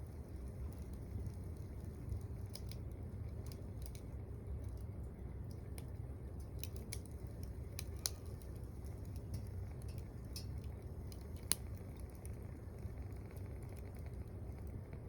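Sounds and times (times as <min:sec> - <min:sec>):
wood stove fire crackling: 0:00.0 - 0:15.0.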